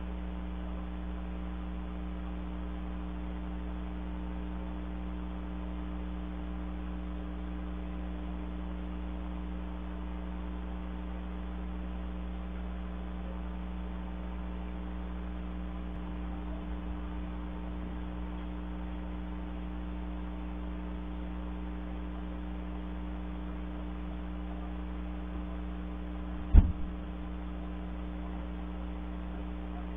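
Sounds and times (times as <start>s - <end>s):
electrical mains hum: 0.0s - 29.9s.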